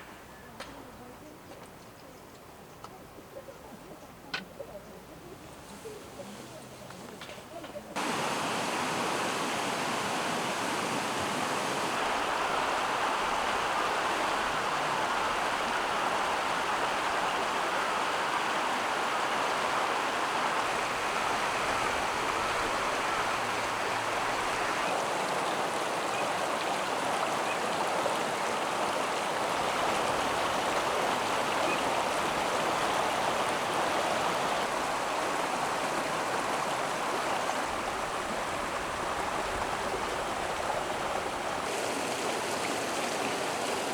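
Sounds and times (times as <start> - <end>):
stream water rushing: 8.0 - 43.9.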